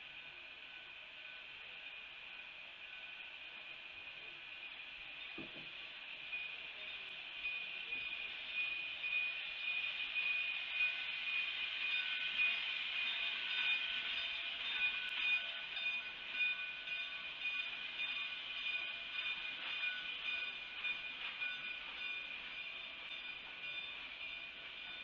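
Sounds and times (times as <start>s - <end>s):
steam train rolling past: 0.0s - 25.0s.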